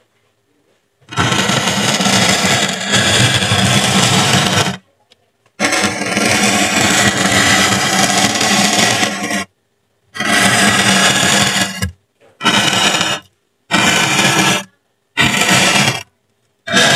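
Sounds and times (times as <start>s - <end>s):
steady low hum: 0.0s - 16.9s
hot tool melting foam: 1.1s - 4.8s, 5.6s - 9.5s, 10.2s - 16.9s.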